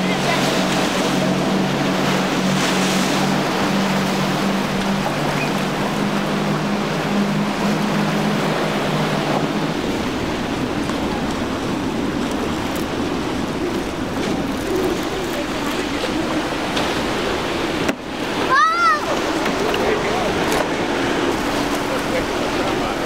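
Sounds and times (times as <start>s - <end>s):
outboard motors droning: 0.0s - 23.0s
waves rushing: 0.0s - 23.0s.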